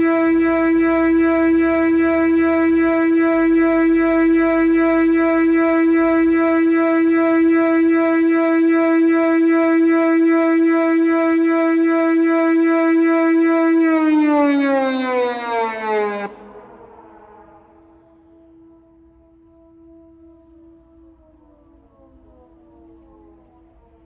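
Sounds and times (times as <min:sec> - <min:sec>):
electronic warning siren tone: 0:00.0 - 0:24.0.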